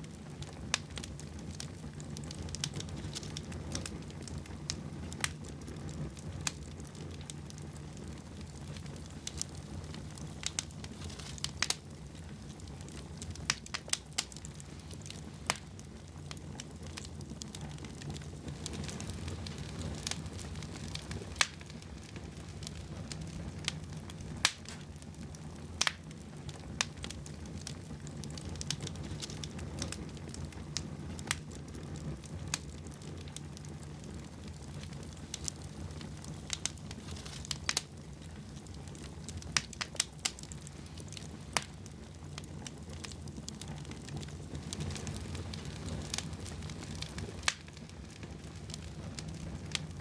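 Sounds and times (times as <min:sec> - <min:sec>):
low rumble of fire: 0:00.0 - 0:50.0
wood fire crackling and popping: 0:00.0 - 0:50.0.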